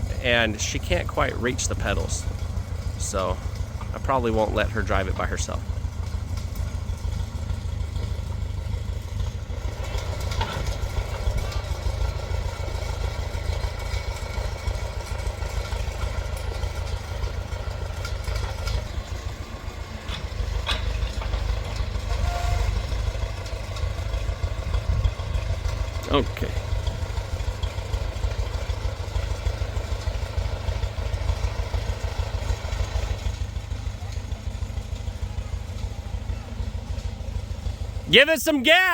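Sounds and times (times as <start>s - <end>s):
backhoe engine rumbling: 0.0s - 38.9s.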